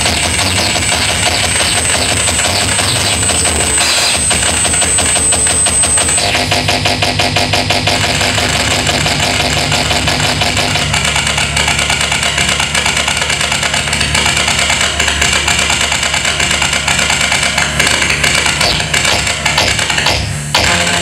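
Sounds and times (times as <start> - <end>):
harsh pulsing electronic noise: 0.0 - 21.0.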